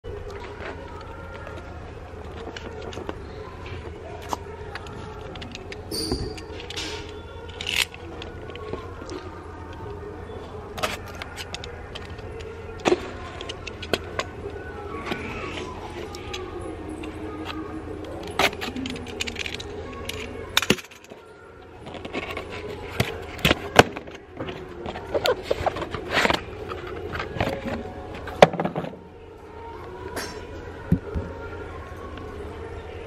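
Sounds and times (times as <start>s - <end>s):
faint music: 0.0s - 33.0s.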